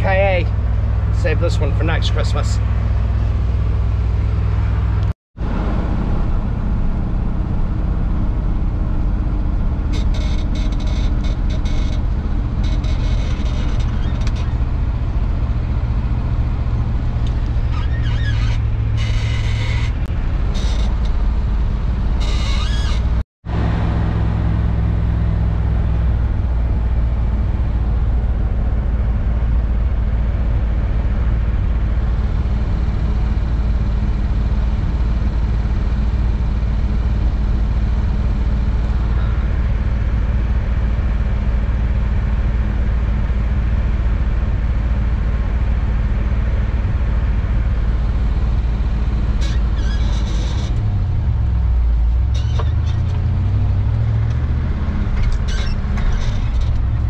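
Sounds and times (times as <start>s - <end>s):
road noise inside car: 0.0s - 57.0s
vehicle engine rumble: 0.0s - 57.0s.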